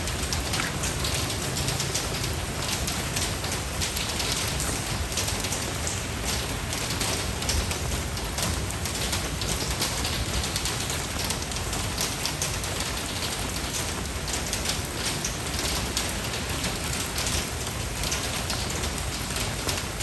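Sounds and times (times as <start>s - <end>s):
rain pattering on a surface: 0.0s - 20.0s.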